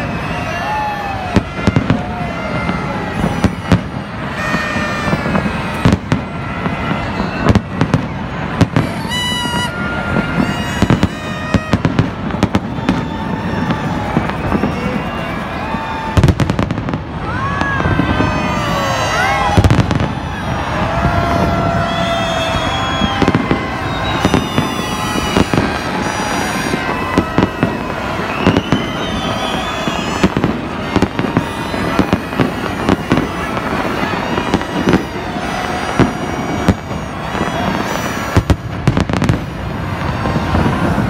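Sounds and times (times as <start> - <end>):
fireworks bangs and crackling: 0.0 - 41.0
whistling rockets: 0.0 - 41.0.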